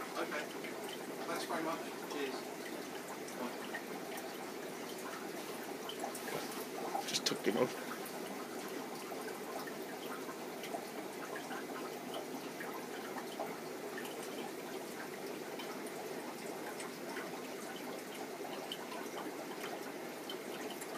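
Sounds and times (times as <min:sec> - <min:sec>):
small water drips and pops: 0:00.0 - 0:20.9
water trickling and bubbling: 0:00.0 - 0:20.9.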